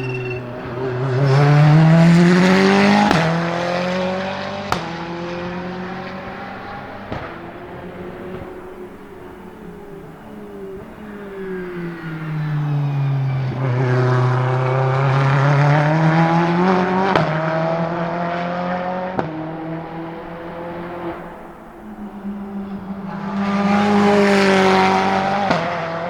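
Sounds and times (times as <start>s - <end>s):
race car engine accelerating: 0.0s - 26.0s.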